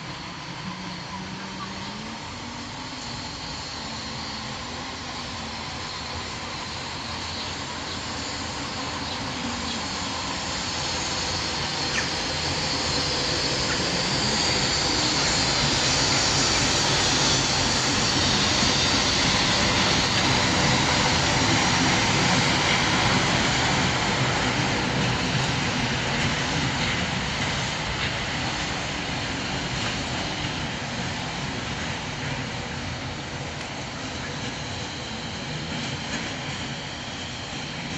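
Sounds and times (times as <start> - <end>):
diesel locomotive passing by: 0.0 - 37.9.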